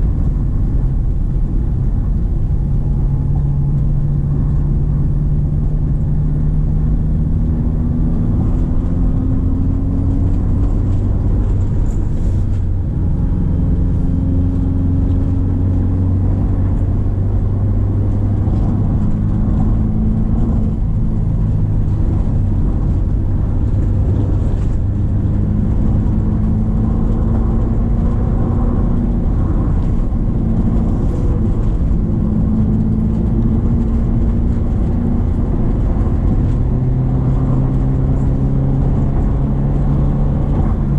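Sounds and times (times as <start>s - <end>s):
car engine pulling uphill: 0.0s - 40.9s.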